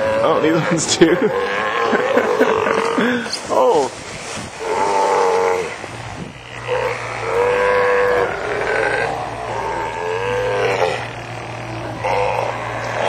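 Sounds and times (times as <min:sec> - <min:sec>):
sea lions bellowing: 0:00.0 - 0:13.0.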